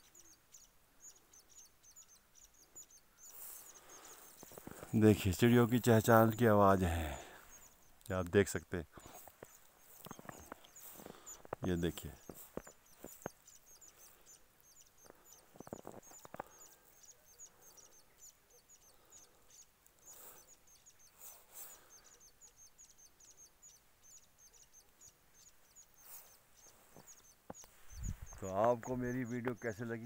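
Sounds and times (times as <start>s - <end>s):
small birds chirping faintly: 0.0s - 30.0s.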